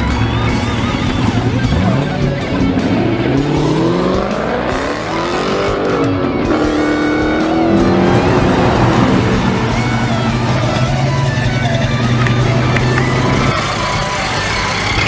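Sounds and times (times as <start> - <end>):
background music: 0.0 - 15.0
car engine accelerating: 0.0 - 15.0.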